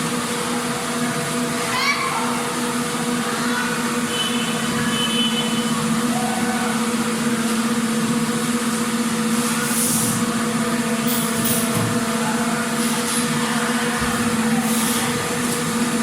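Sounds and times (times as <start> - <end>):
factory machinery droning hum: 0.0 - 16.0.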